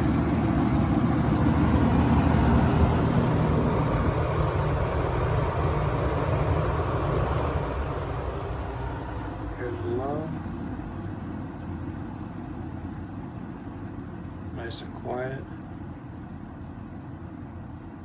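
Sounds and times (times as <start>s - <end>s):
box fan hum and air rush: 0.0s - 18.0s.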